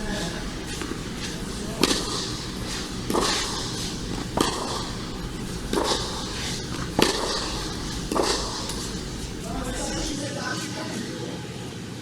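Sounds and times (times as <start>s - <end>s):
shoe scuffs: 0.0s - 10.2s
tennis ball struck by rackets: 0.0s - 10.2s.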